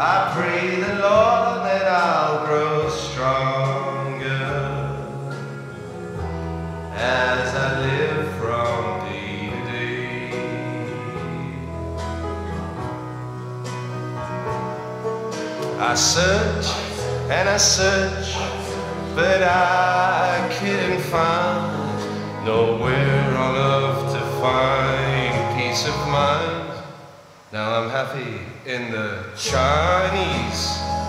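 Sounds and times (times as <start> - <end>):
man singing into microphone: 0.0 - 6.0, 6.9 - 12.0, 15.6 - 31.0
low bass notes: 0.0 - 26.8, 29.4 - 31.0
guitar backed song: 0.0 - 31.0.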